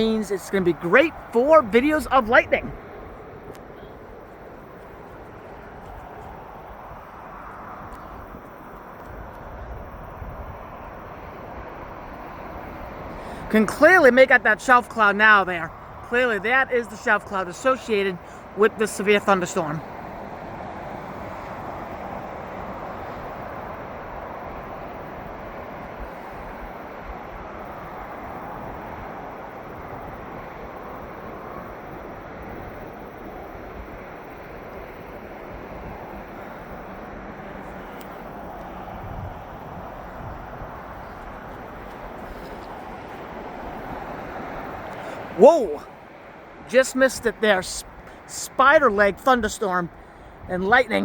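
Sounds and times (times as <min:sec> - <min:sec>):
rushing outdoor ambience: 0:00.0 - 0:51.0.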